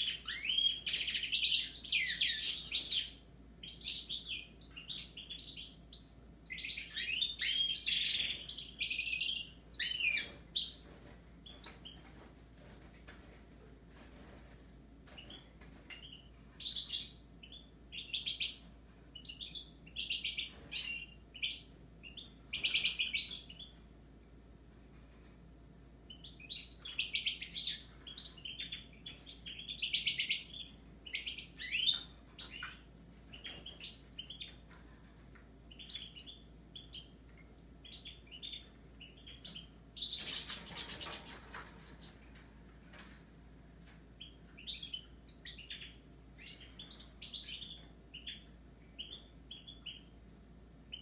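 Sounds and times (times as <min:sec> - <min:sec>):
songbirds twittering: 0:00.0 - 0:12.2, 0:15.1 - 0:23.9, 0:26.0 - 0:43.2, 0:43.8 - 0:51.0.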